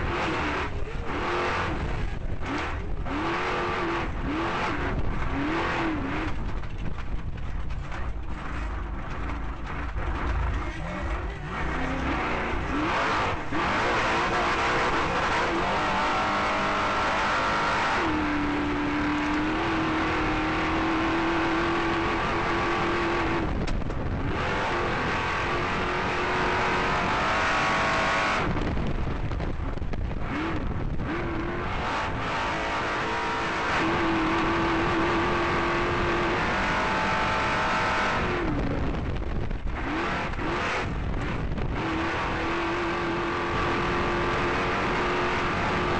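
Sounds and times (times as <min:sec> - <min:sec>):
race car engine at hard throttle: 0:00.0 - 0:45.9
road and chassis noise: 0:00.0 - 0:45.9.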